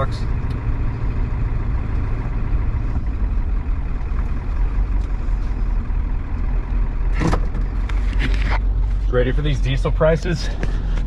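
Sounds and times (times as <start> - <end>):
diesel engine low rumble: 0.0 - 11.0.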